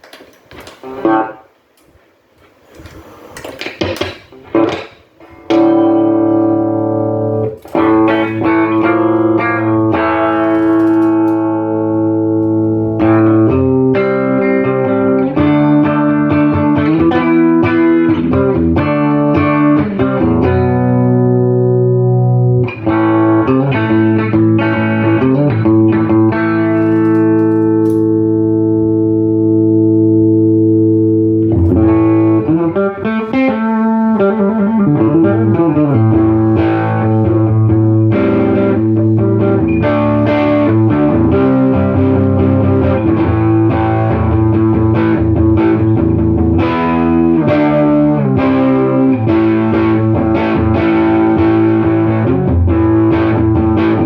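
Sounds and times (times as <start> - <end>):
electric guitar chords and strumming: 0.6 - 1.5, 3.6 - 54.0.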